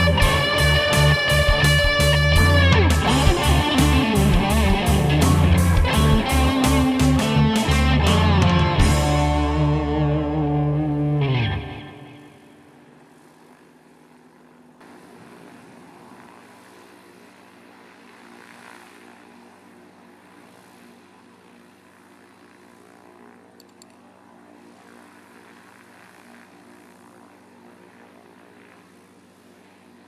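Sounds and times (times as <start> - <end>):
propeller engine idling: 0.0 - 30.0.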